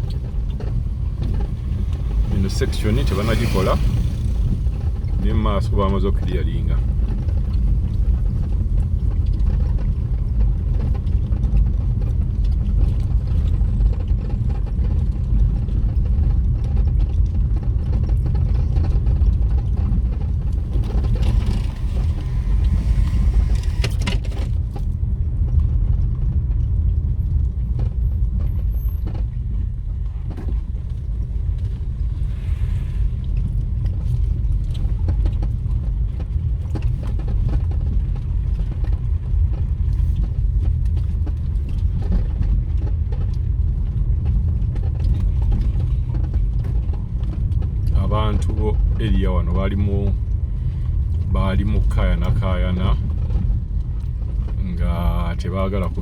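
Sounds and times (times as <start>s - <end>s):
vehicle on rough road rumble: 0.0s - 56.0s.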